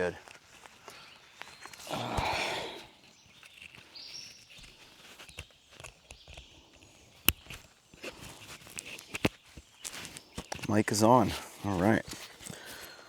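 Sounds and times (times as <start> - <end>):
footsteps on a trail: 0.0 - 13.0.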